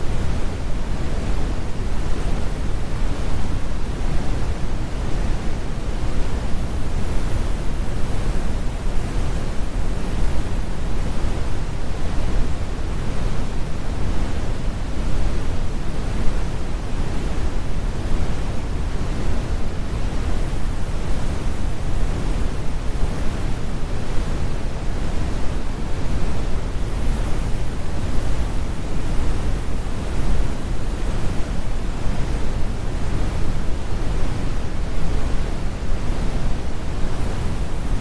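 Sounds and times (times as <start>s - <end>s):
brown noise rumble: 0.0s - 38.0s.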